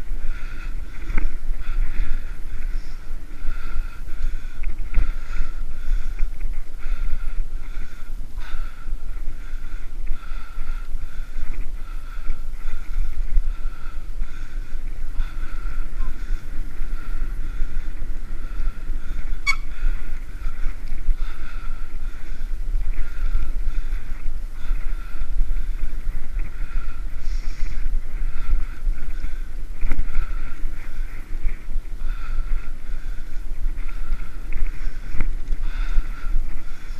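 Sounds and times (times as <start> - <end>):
bicycle rolling on pavement: 0.0 - 36.9
wind buffeting microphone: 0.0 - 36.9.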